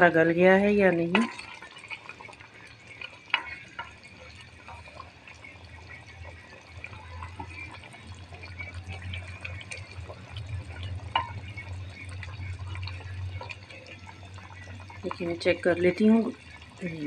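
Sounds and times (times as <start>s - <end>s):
spoon stirring wet stew: 0.6s - 17.0s.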